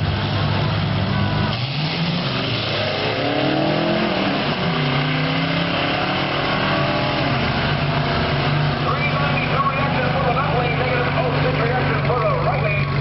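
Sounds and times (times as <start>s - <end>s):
engines accelerating at full throttle: 0.0s - 13.0s.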